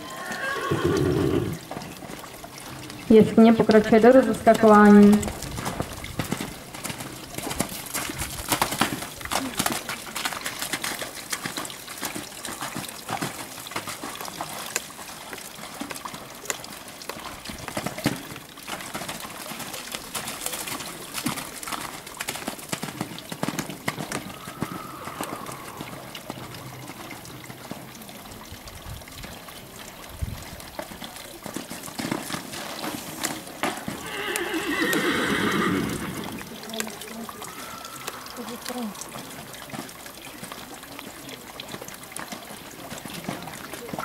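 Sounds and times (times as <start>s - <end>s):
hooves splashing in puddles: 0.0s - 44.0s
horse hoofbeats: 0.0s - 44.0s.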